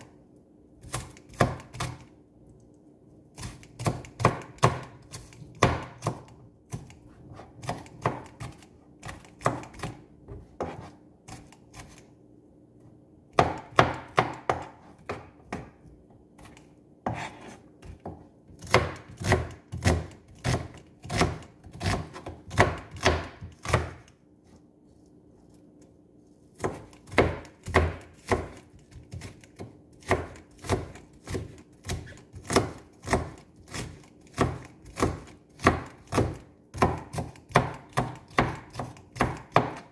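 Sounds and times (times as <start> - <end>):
knife chopping on cutting board: 0.8 - 2.0, 3.4 - 12.0, 13.4 - 15.8, 16.4 - 24.1, 26.6 - 39.9.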